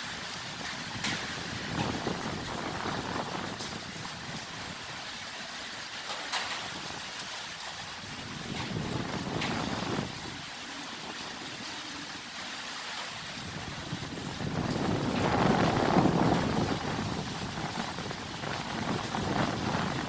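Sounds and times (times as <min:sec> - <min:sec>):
strong gusting wind roar: 0:00.0 - 0:05.2, 0:07.8 - 0:12.2, 0:13.1 - 0:20.0.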